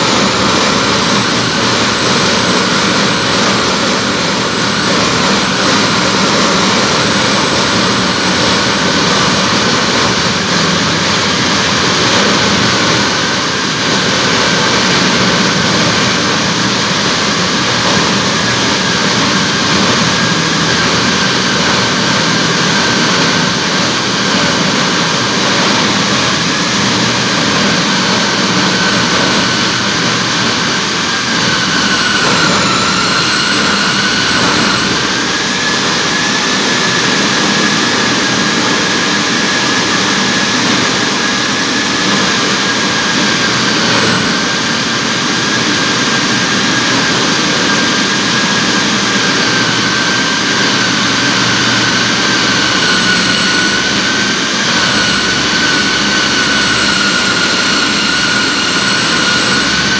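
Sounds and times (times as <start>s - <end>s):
core drill cutting concrete: 0.0s - 59.9s.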